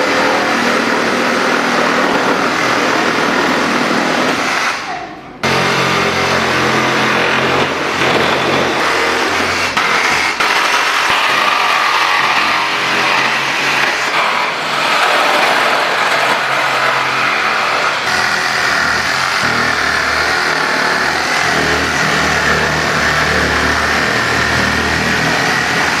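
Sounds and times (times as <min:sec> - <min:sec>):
electric saw motor running: 0:00.0 - 0:04.7, 0:05.4 - 0:26.0.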